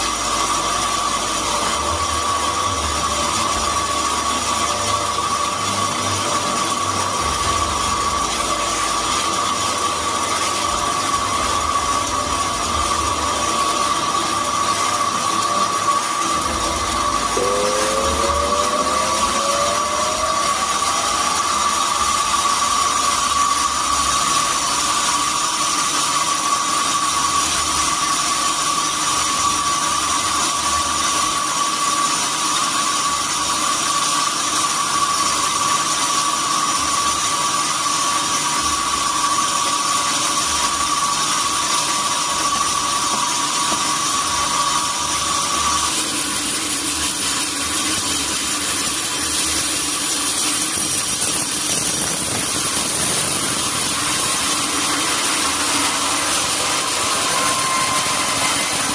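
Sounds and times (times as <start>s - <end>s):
sawmill saw cutting wood: 0.0s - 58.9s.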